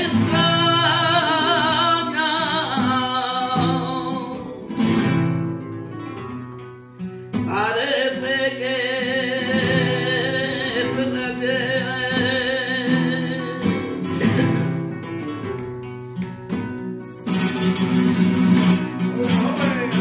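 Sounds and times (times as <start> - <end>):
guitars strumming chords: 0.0 - 20.0.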